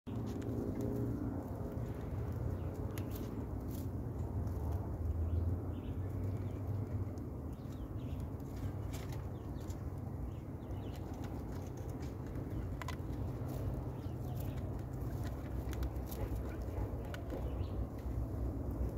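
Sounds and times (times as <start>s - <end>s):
low hum: 0.1s - 18.9s.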